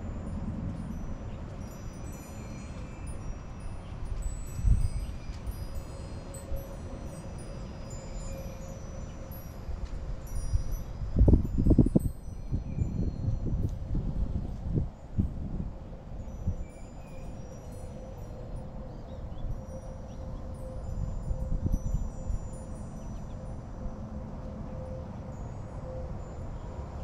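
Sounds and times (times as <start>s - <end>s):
wind chimes ringing: 0.0s - 27.0s
wind rumbling on microphone: 0.0s - 27.0s.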